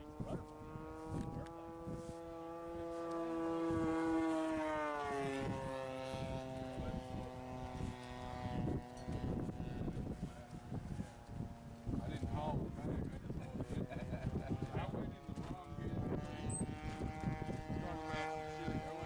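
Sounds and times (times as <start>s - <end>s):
model plane engine buzzing past: 0.0s - 19.0s
wind buffeting microphone: 0.0s - 19.0s.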